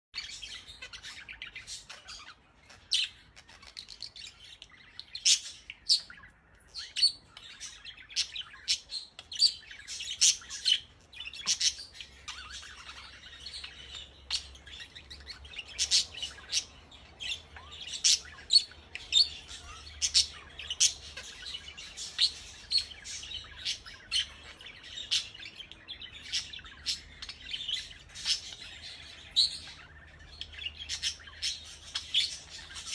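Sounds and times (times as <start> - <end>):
budgerigar chirping: 0.2 - 32.9.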